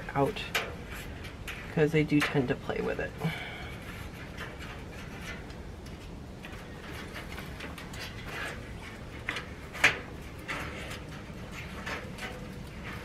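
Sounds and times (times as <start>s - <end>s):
wire mesh clicks and rattles: 0.0s - 13.0s.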